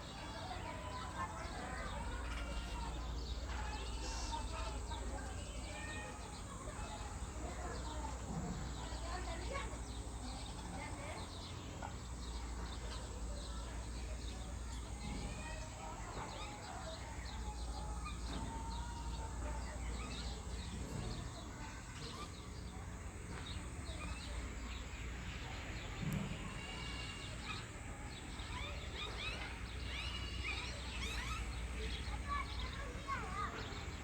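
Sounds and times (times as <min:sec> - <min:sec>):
birds chirping: 0:00.1 - 0:34.0.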